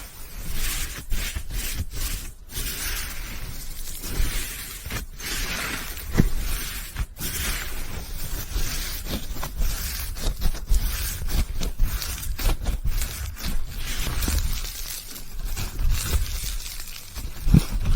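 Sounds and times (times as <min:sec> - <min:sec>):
slime squishing: 0:00.0 - 0:17.9.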